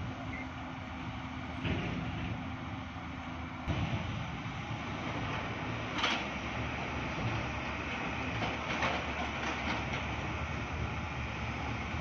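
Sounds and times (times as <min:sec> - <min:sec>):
excavator diesel engines: 0:00.0 - 0:12.0.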